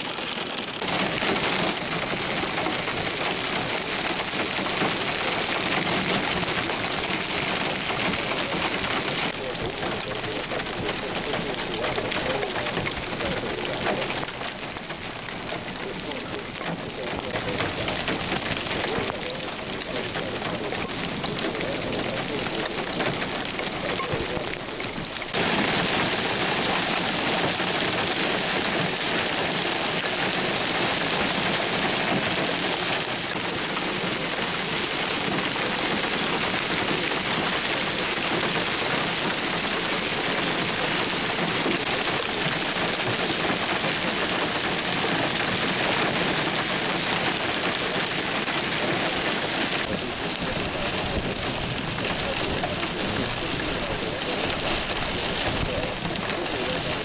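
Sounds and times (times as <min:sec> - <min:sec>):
hail and heavy rain on road: 0:00.0 - 0:57.0.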